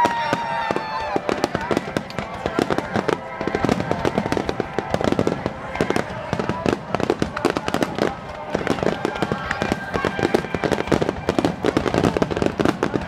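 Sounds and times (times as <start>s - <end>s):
fireworks bangs and crackles: 0.0s - 13.0s
fireworks whistling: 0.0s - 13.0s.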